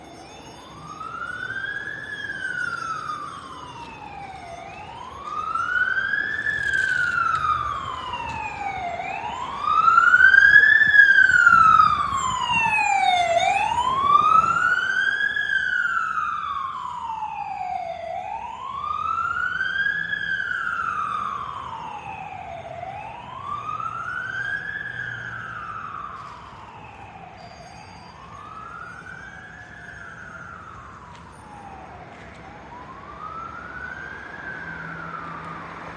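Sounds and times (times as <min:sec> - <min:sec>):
emergency vehicle siren wailing: 0:00.0 - 0:35.9.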